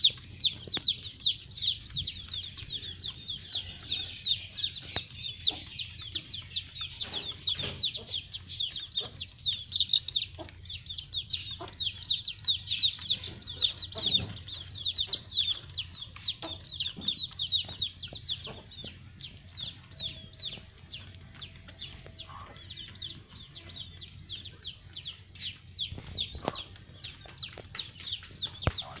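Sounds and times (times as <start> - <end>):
beaks pecking on concrete: 0.0 - 29.0
young birds peeping: 0.0 - 29.0.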